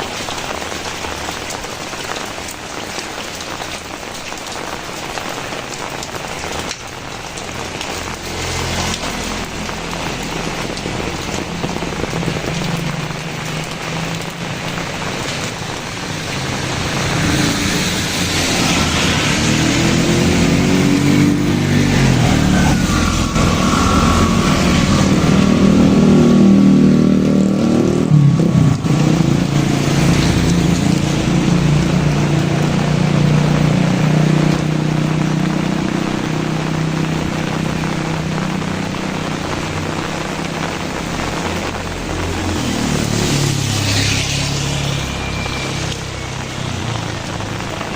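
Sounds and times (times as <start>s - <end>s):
steady rain: 0.0s - 47.9s
vehicle engine passing by: 7.8s - 47.9s.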